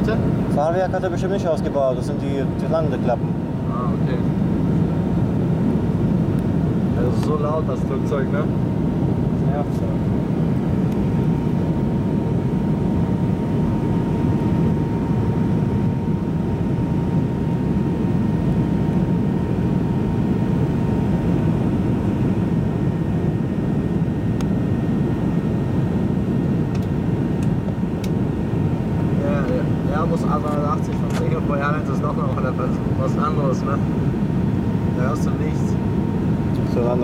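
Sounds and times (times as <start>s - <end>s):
airliner cabin engine drone: 0.0s - 37.0s
faint steady whine: 0.0s - 37.0s.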